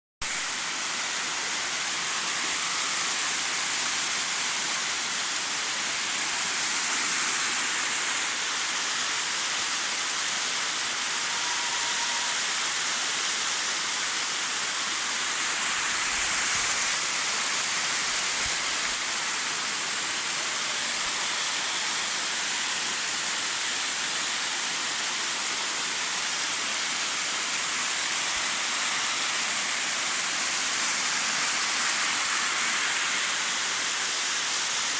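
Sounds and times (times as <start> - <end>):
waterfall splashing: 0.2 - 34.9.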